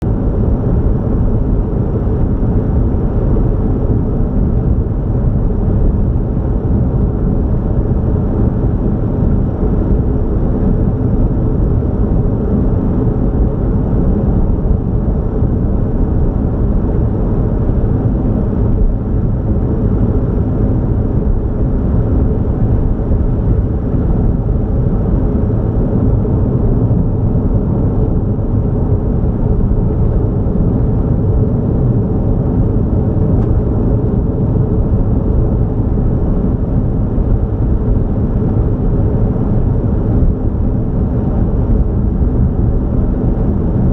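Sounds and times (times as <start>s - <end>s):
vehicle cruising on highway: 0.0s - 43.9s.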